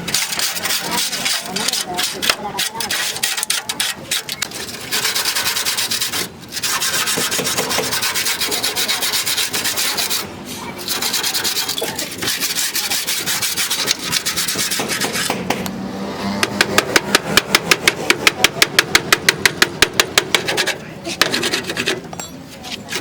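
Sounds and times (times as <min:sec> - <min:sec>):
sanding on sheet metal: 0:00.0 - 0:15.6, 0:16.2 - 0:22.0, 0:22.6 - 0:23.0.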